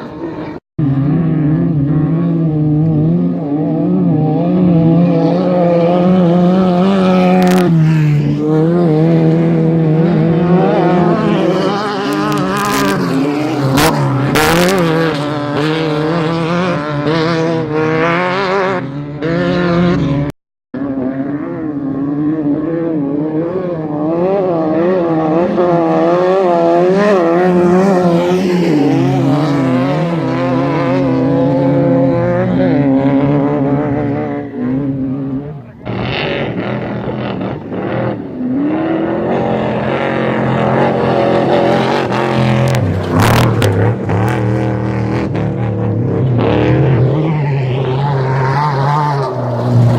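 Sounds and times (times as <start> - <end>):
race vehicle engines at full speed: 0.0 - 49.9.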